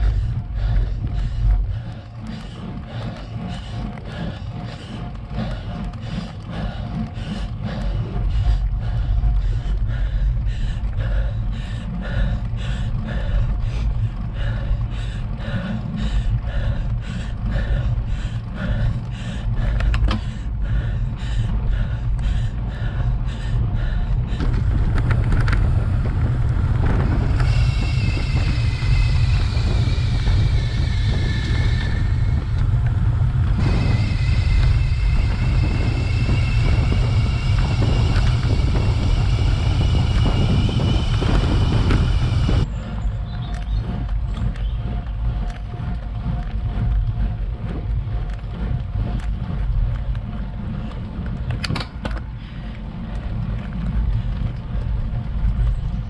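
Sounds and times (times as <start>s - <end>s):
bicycle tyre rumble: 0.0s - 56.0s
high whine sliding down: 0.0s - 56.0s
wind buffeting microphone: 0.0s - 56.0s.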